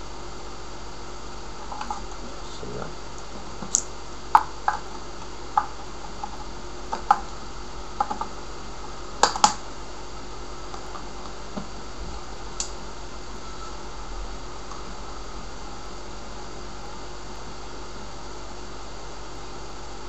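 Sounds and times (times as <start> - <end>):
low background noise: 0.0 - 19.9.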